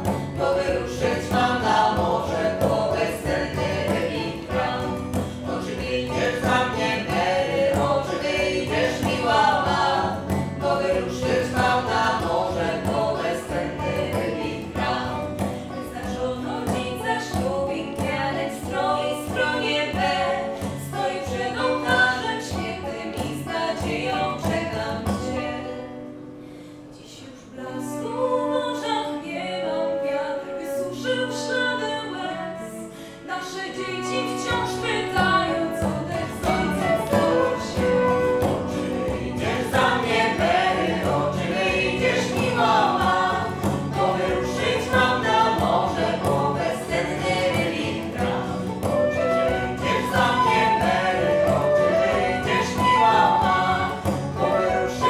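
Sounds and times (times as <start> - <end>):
frame drum: 0.0 - 25.5, 34.4 - 55.0
voices singing in harmony: 0.0 - 26.1, 27.0 - 55.0
acoustic guitar: 0.0 - 55.0
banjo: 0.0 - 55.0.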